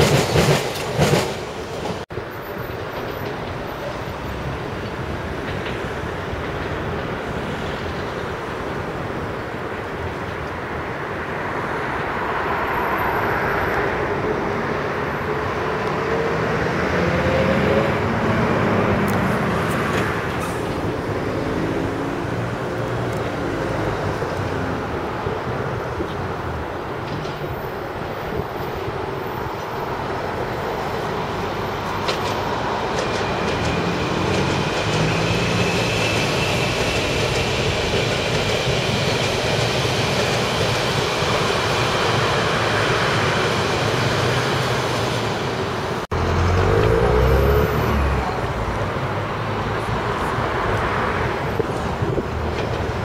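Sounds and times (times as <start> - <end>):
deep train rumble: 0.0 - 53.0
train wheels rumbling on track: 0.0 - 53.0.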